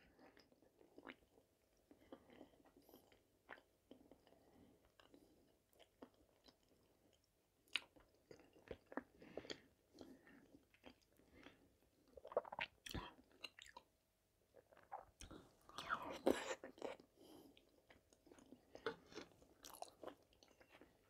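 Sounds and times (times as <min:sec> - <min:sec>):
quiet chewing: 0:00.1 - 0:13.9, 0:14.6 - 0:21.0.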